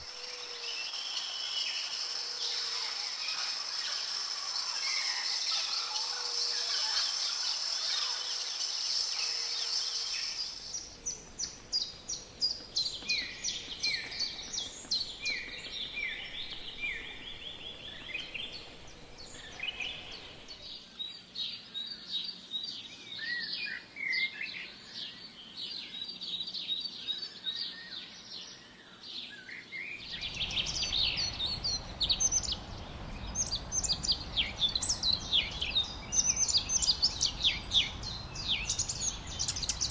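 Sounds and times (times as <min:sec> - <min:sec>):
forest birds calling and singing: 0:00.0 - 0:39.9.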